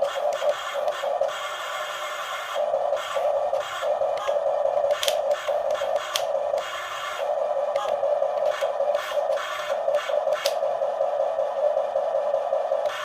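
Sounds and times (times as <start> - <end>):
toy electric motors whining: 0.0 - 10.8, 12.5 - 13.0.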